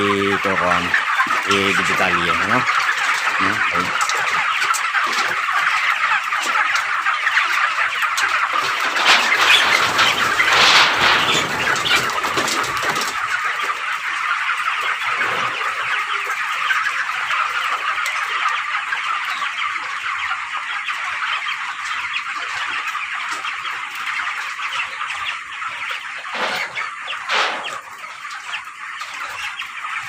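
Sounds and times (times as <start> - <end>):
chickens cheeping: 0.0 - 30.0.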